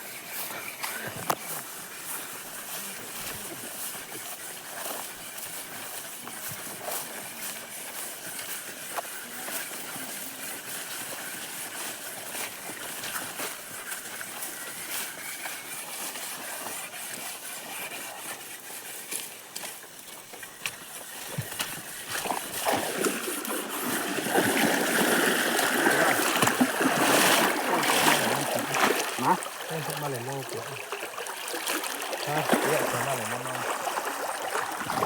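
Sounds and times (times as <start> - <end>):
footsteps crunching through undergrowth: 0.0 - 35.0
outdoor ambience hiss: 0.0 - 35.0.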